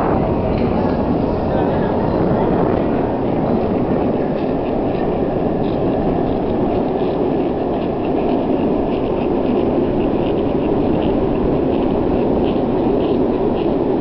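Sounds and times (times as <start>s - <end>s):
longboard wheels rolling on asphalt: 0.0s - 14.0s.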